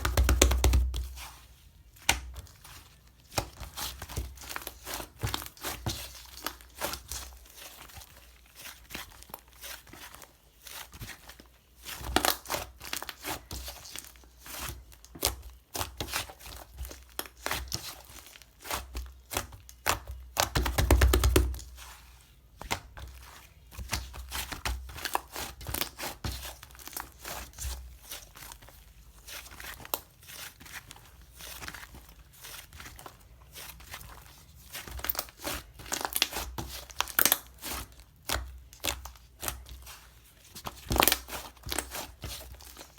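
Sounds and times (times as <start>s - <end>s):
slime crackling and squelching: 0.0s - 42.9s.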